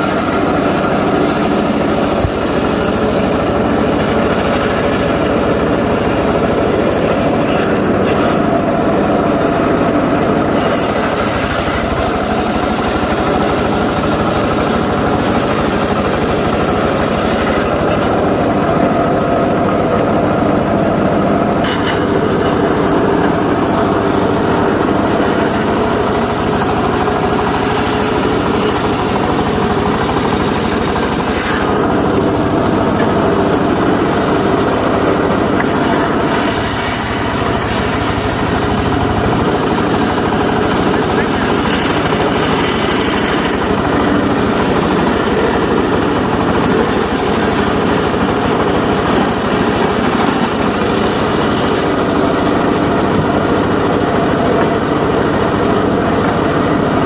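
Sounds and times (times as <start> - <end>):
circular saw cutting wood: 0.0 - 57.0.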